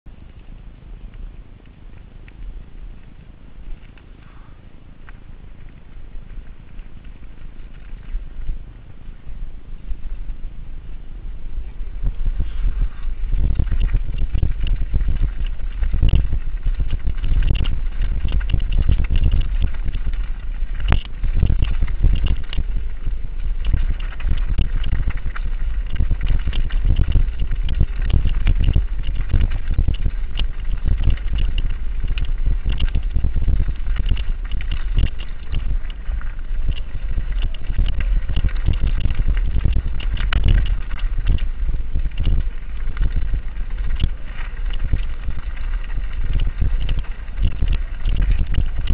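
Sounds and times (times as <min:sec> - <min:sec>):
tyres on loose gravel: 0:00.1 - 0:48.9
wind rumble on microphone: 0:00.1 - 0:48.9
bike rattling over stones: 0:00.2 - 0:48.9.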